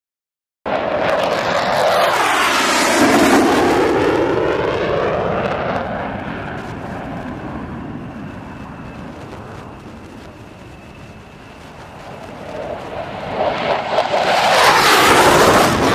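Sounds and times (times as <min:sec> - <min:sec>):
jet engines roaring: 0:00.7 - 0:15.9.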